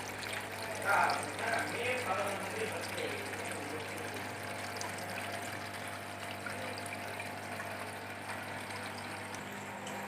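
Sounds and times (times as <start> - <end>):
water trickling in fountain: 0.0 - 10.0.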